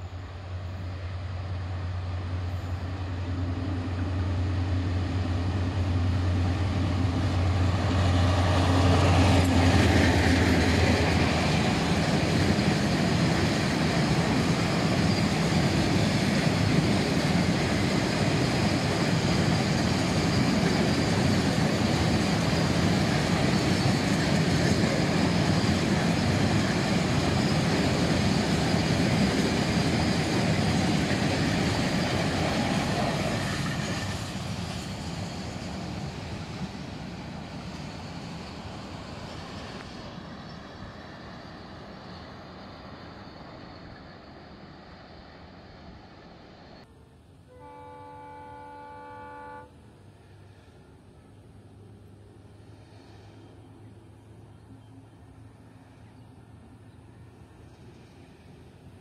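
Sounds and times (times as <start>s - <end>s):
diesel locomotive engine hum: 0.0s - 59.0s.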